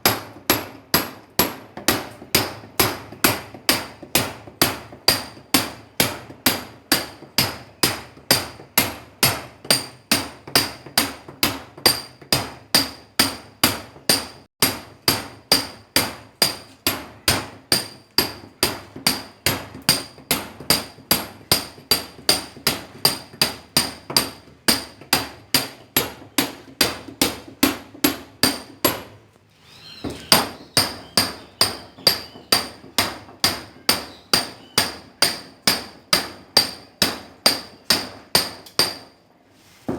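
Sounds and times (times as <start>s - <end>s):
hammer striking steel chisel: 0.0s - 29.2s, 30.1s - 39.2s.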